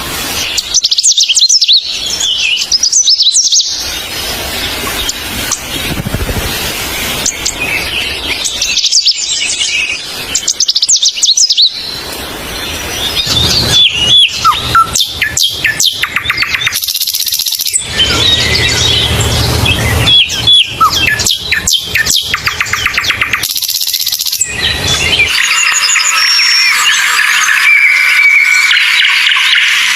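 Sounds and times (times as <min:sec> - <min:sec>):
songbirds chirping and singing: 0:00.0 - 0:29.9.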